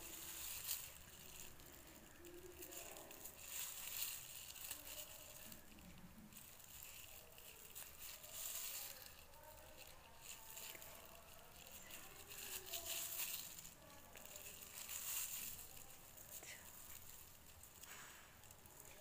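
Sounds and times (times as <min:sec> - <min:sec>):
plastic bag crinkling and rustling: 0:00.0 - 0:19.0.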